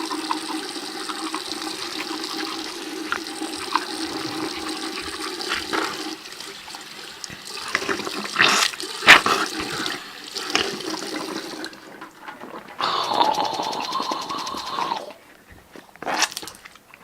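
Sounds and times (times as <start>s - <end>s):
toilet flushing: 0.0s - 16.7s.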